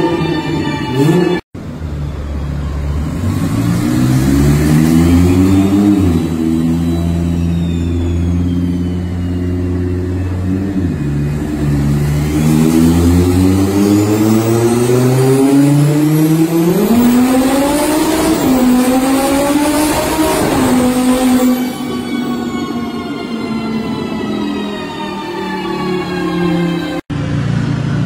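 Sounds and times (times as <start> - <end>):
engine running on dynamometer: 2.9 - 28.0.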